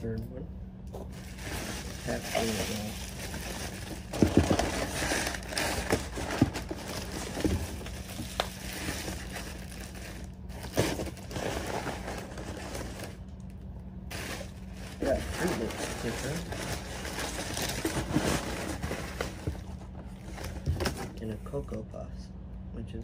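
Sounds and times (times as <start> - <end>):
sharp crackles and knocks: 0.9 - 21.2
bubble wrap crinkling: 1.1 - 13.4, 14.1 - 21.1.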